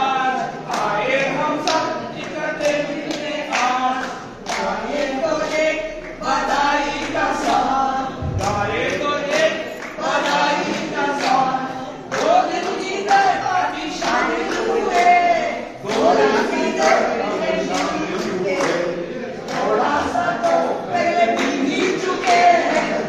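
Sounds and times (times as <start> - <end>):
women singing in unison: 0.0 - 23.0.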